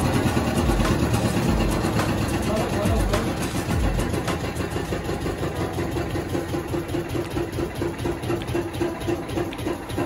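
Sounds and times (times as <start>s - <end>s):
drilling rig engine throbbing: 0.0s - 10.0s.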